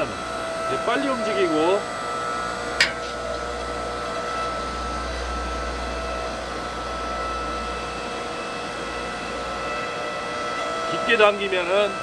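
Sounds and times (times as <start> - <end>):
log splitter motor whining hum: 0.0 - 12.0.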